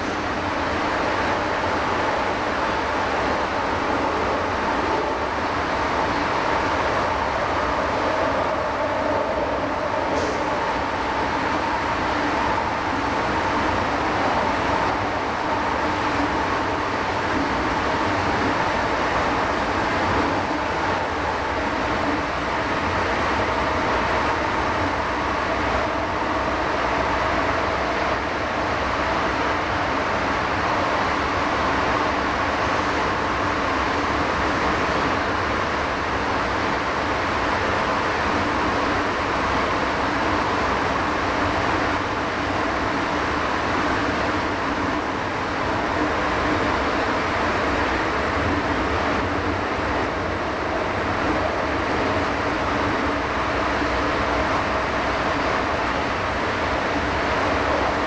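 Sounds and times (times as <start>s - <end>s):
steady train hum: 0.0s - 58.0s
train wheels rumbling on rail: 0.0s - 58.0s.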